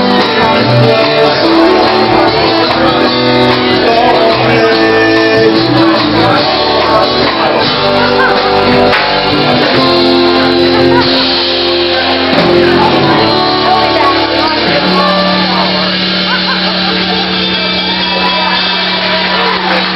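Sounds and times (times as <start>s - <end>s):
live band playing: 0.0s - 19.9s
man singing: 0.0s - 19.9s.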